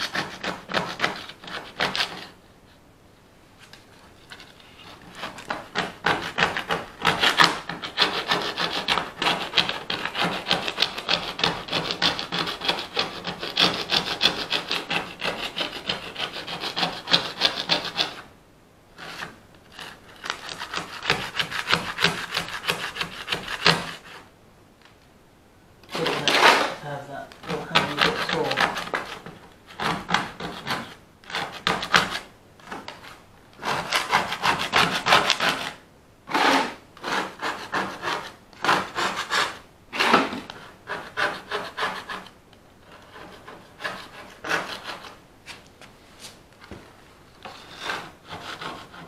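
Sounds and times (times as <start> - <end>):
hand file scraping: 0.0 - 2.4, 4.2 - 18.3, 19.0 - 24.3, 25.8 - 45.6, 47.4 - 49.0.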